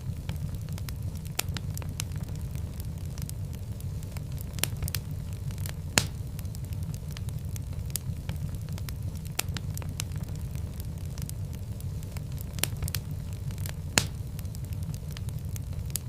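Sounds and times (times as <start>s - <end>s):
fire crackling with pops: 0.0s - 16.0s.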